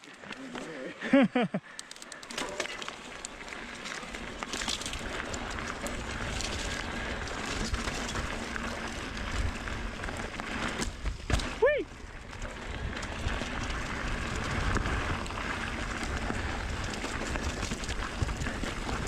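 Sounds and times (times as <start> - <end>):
bike tyres on gravel: 0.0 - 19.0.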